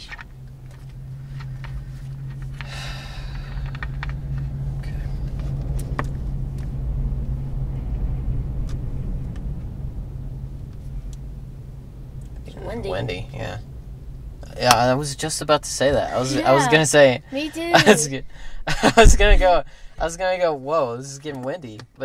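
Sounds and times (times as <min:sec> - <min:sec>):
wind gust buffeting car: 0:00.0 - 0:20.6
steady low hum: 0:00.0 - 0:22.0.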